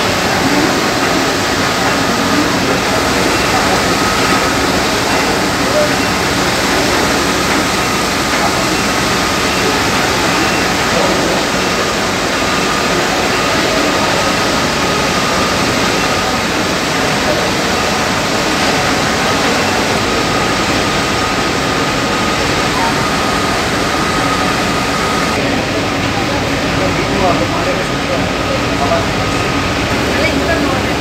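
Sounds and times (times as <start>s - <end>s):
constant thin whine: 0.0s - 31.0s
factory machinery din: 0.0s - 31.0s.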